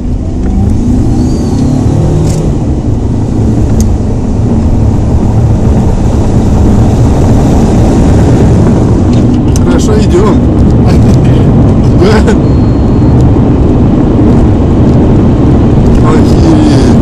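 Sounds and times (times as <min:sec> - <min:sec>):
car engine accelerating: 0:00.0 - 0:17.0
road and wind noise: 0:00.0 - 0:17.0.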